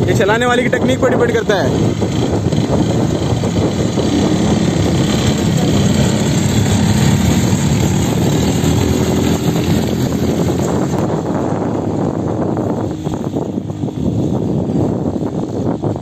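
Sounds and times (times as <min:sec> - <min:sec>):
quad bike engine at low revs: 0:00.0 - 0:16.0.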